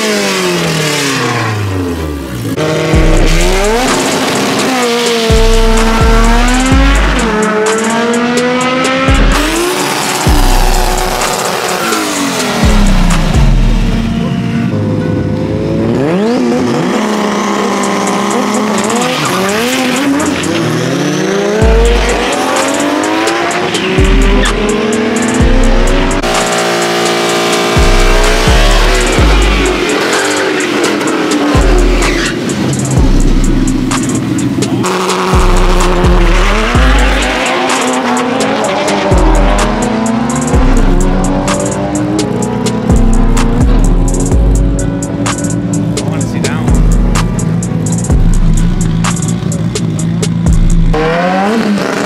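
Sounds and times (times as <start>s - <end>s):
drag racing car engines revving: 0.0s - 52.0s
background music with bass and hi-hat: 1.8s - 14.4s, 16.0s - 52.0s.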